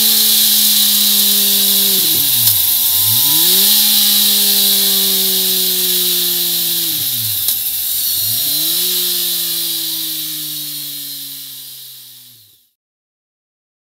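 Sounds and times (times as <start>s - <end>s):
motorcycle engine at high revs: 0.0s - 12.8s.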